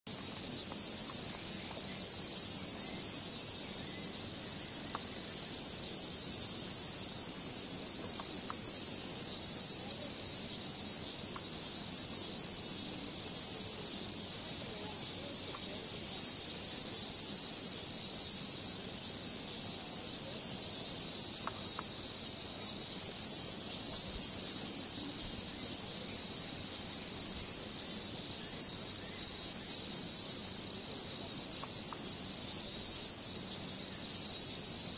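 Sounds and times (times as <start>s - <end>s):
cicada chorus: 0.1s - 34.9s.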